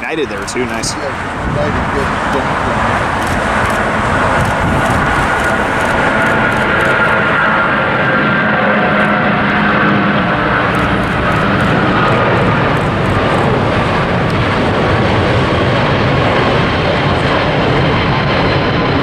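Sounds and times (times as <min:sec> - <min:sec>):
faint high engine whine: 0:00.0 - 0:19.0
jet engines rumbling: 0:00.0 - 0:19.0.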